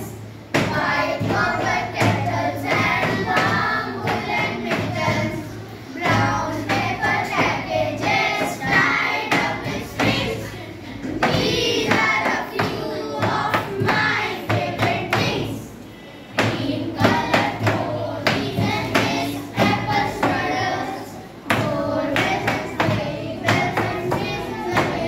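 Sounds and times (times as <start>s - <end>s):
children singing in chorus: 0.0s - 25.0s.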